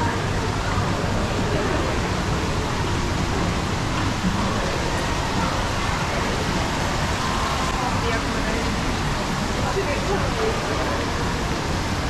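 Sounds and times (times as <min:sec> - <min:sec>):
shopping mall ambience: 0:00.0 - 0:12.0.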